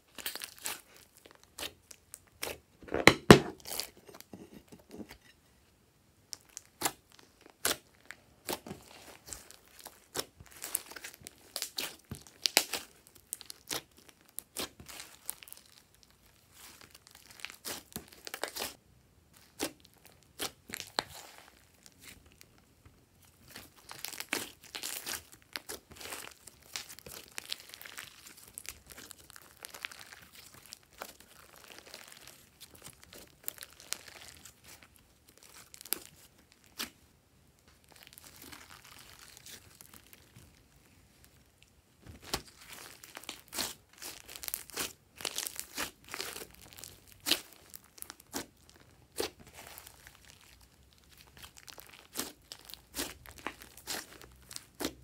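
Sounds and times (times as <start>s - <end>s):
slime crackling and popping: 0.0s - 3.9s, 6.3s - 18.8s, 19.4s - 22.6s, 23.2s - 40.7s, 41.4s - 55.0s.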